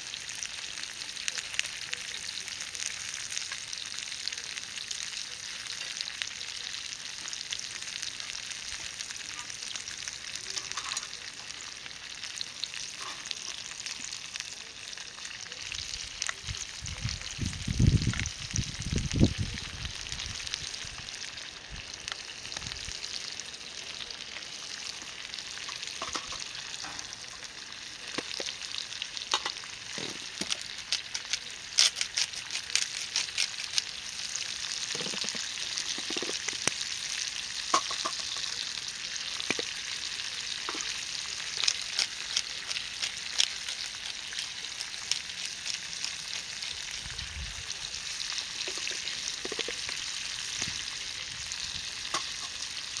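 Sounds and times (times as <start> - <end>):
oil sizzling with pops: 0.0 - 53.0.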